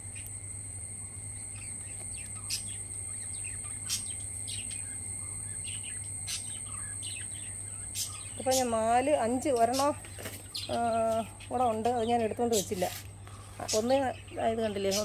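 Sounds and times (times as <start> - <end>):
high-pitched insect drone: 0.0 - 12.9
birds chirping: 1.0 - 15.0.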